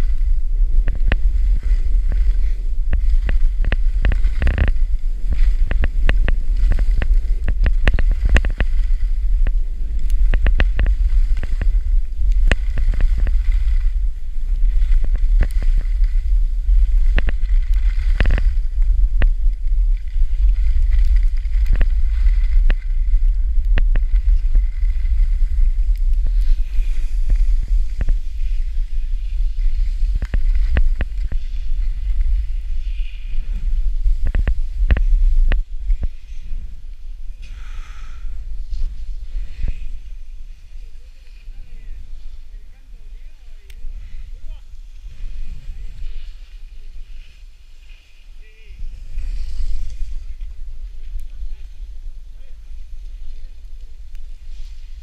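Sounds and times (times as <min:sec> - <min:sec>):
snowboard scraping snow: 0:00.0 - 0:55.0
wind rumbling on microphone: 0:00.0 - 0:55.0.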